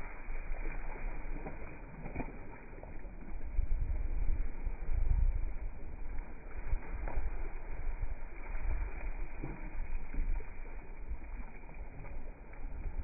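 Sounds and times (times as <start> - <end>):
low rumble: 0.0 - 13.0
paddles splashing through water: 0.0 - 13.0.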